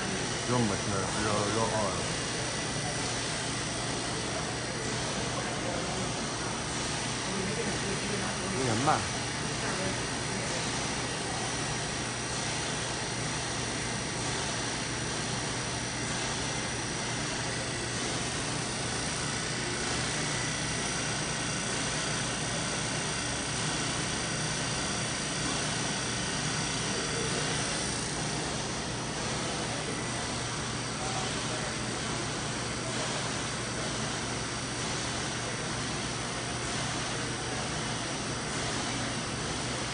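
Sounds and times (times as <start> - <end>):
machinery drone and hiss: 0.0 - 39.9.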